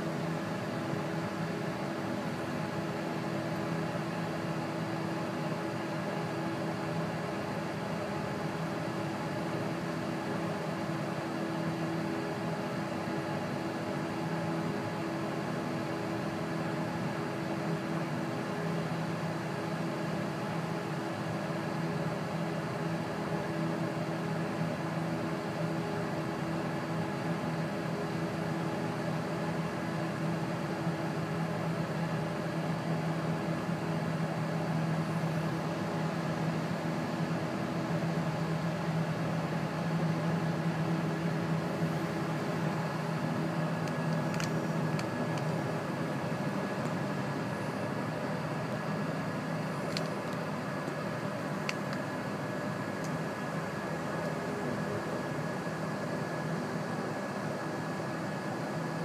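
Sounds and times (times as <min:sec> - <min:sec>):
helicopter turbine whining hum: 0:00.0 - 0:59.0.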